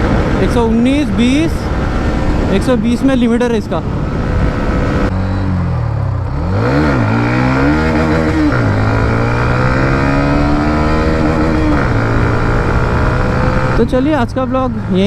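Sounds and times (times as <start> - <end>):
motorcycle engine revving: 0.0 - 15.0
wind rush: 0.0 - 15.0.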